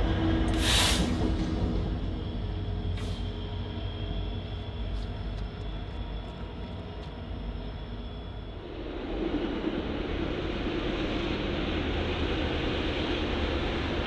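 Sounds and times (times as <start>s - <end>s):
train running low: 0.0s - 14.0s.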